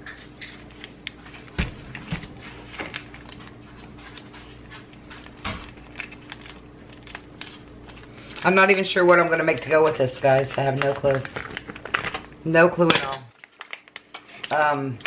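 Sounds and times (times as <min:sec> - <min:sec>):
plastic rustling: 0:00.0 - 0:12.4, 0:13.3 - 0:15.0.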